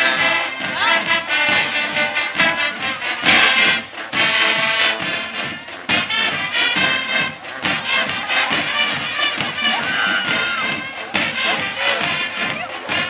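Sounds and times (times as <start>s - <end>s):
brass instruments holding chords: 0.0s - 13.0s
drums: 0.0s - 13.0s
sharp percussion accents: 0.0s - 13.0s.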